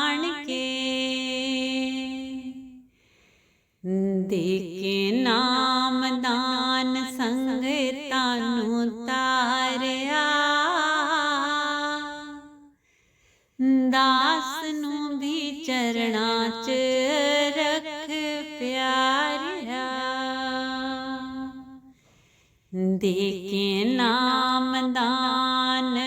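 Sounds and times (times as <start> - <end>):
woman singing devotional song: 0.0 - 3.0, 3.7 - 12.8, 13.5 - 26.0.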